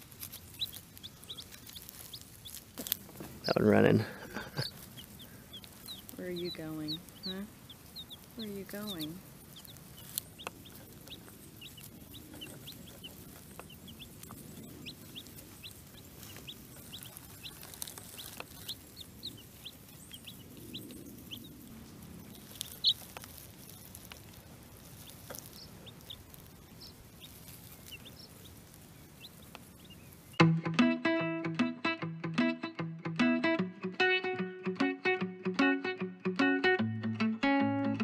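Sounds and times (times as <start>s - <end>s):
baby chicks peeping: 0.0s - 30.4s.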